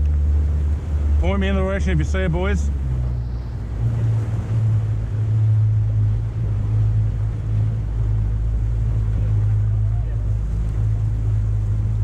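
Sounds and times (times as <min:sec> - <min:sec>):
outboard motor droning: 0:00.0 - 0:12.0
water rushing past hull: 0:00.0 - 0:12.0.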